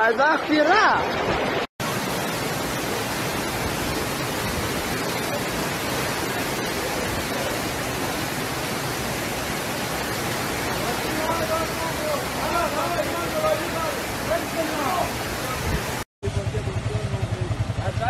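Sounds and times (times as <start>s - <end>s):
floodwater rushing: 0.0s - 16.1s.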